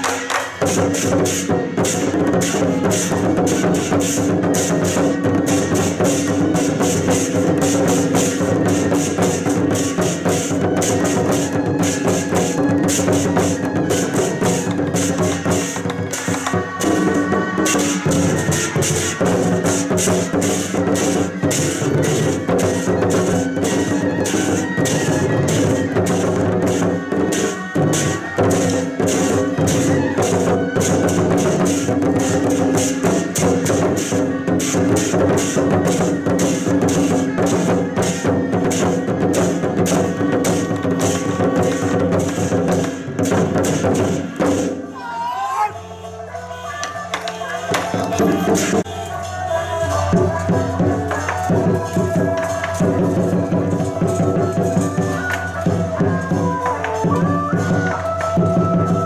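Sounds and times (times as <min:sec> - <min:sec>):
large barrel drums beaten fast: 0:00.0 - 0:44.9, 0:46.9 - 0:59.0.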